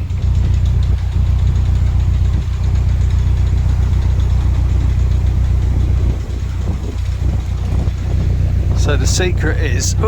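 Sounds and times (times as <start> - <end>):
boat diesel engine chugging: 0.0 - 10.0.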